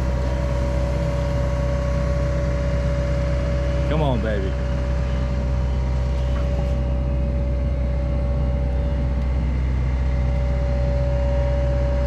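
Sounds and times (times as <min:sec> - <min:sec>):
excavator diesel engine running: 0:00.0 - 0:12.0
steady whine: 0:00.0 - 0:12.0.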